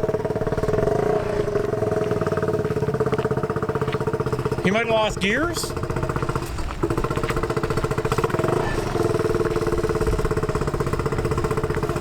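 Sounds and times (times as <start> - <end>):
engine running with rapid pulse: 0.0 - 12.0.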